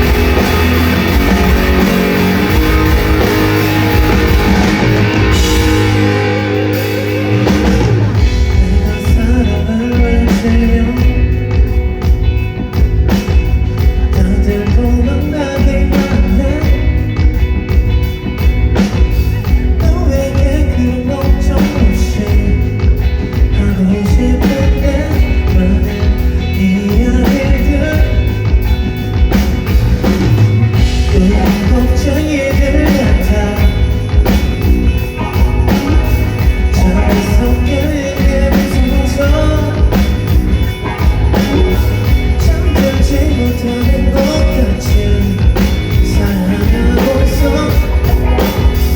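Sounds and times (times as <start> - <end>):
person singing: 0.0 - 12.1, 13.8 - 29.0, 30.7 - 48.9
drums: 0.0 - 48.9
heavy bass: 0.0 - 48.9
rock band playing live: 0.0 - 48.9.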